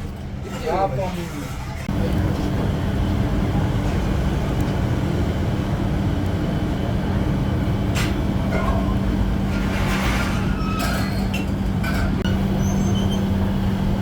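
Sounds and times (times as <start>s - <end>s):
workshop machine humming: 0.0s - 14.0s.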